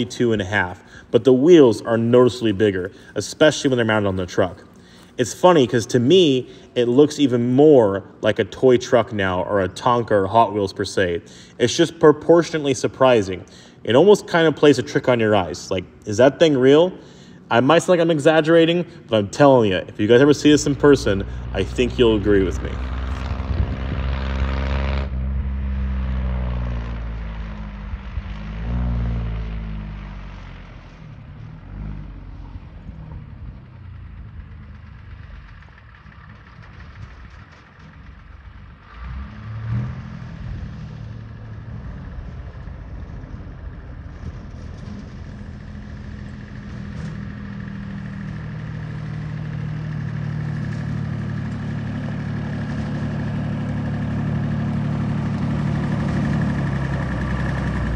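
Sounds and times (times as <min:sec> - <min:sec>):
diesel truck engine: 0:00.0 - 0:57.9
truck driving on gravel road: 0:00.0 - 0:57.9.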